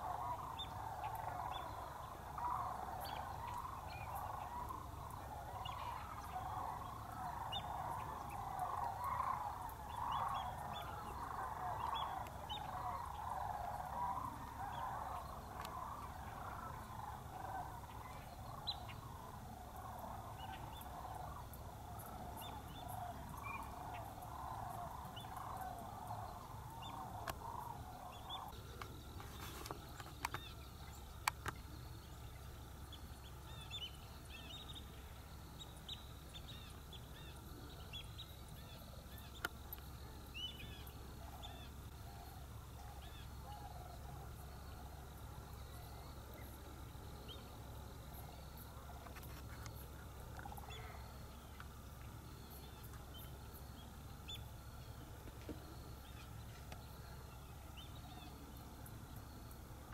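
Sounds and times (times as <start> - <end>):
flock of waterbirds calling: 0.0 - 58.8
small birds chirping: 0.0 - 59.9.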